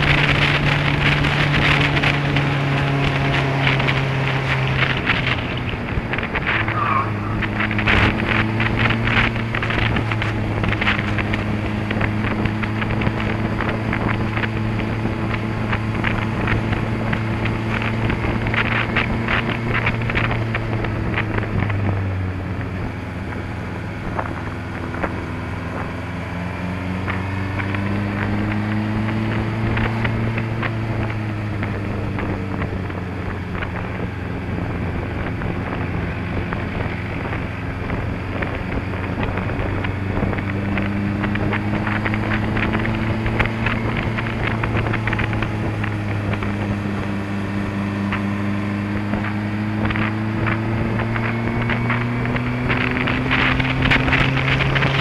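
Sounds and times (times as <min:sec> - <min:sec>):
motorcycle engine cruising: 0:00.0 - 0:55.0
wind buffeting microphone: 0:00.0 - 0:55.0.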